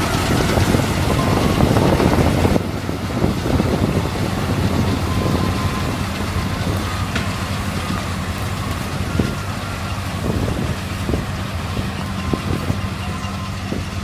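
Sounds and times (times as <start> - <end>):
combine harvester engine drone: 0.0 - 14.0
working machinery noise: 0.0 - 14.0.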